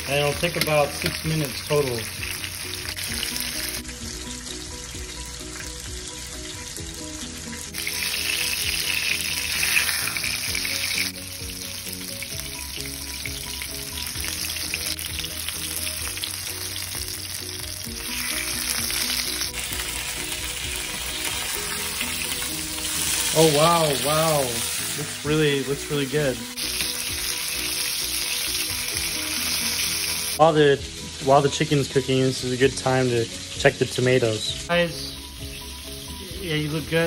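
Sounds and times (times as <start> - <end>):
chicken frying in oil: 0.0 - 37.0.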